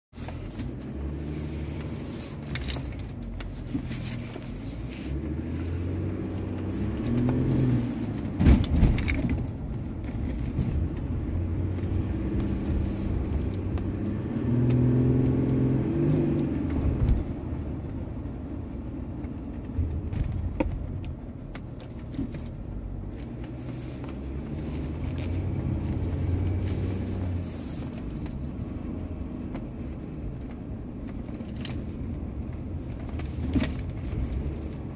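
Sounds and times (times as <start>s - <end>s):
engine and road hum in car: 0.1s - 34.9s.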